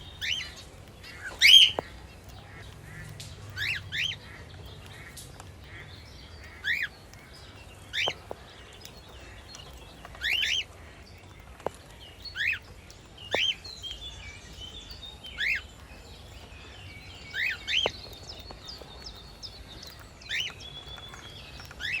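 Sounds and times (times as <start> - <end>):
soft bird twittering: 0.0 - 22.0.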